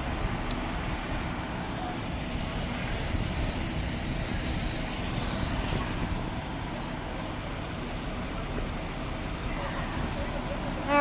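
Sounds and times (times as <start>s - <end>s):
wind buffeting microphone: 0.0s - 10.9s
vehicle engines running: 0.0s - 11.0s.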